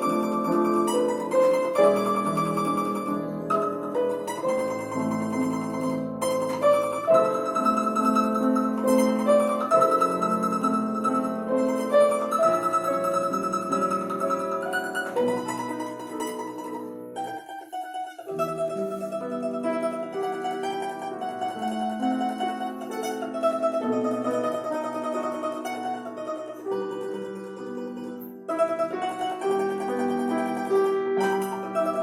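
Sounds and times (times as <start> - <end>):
piano accompaniment: 0.0 - 32.0
plucked string tremolo melody: 0.0 - 32.0.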